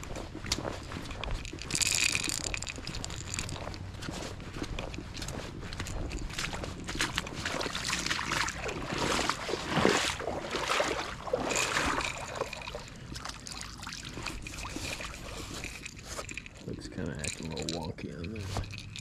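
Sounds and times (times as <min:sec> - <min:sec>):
water lapping at shoreline: 0:00.0 - 0:18.7.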